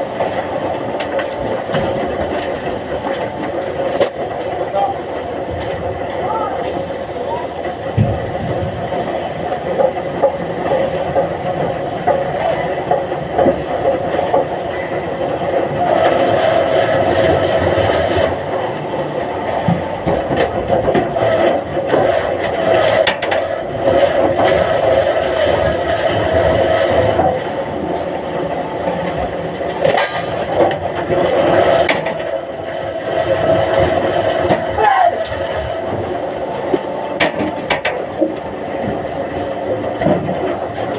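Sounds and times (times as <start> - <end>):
log-handling machinery running: 0.0 - 40.9.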